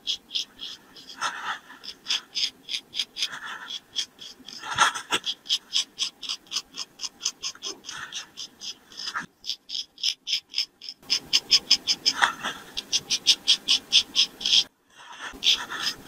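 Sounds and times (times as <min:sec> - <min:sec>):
razor scraping stubble: 0:00.0 - 0:14.7, 0:15.4 - 0:16.0.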